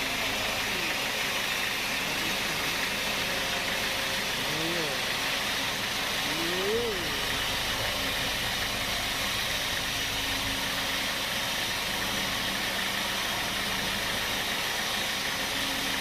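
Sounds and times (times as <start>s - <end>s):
sawmill machinery humming: 0.0s - 16.0s.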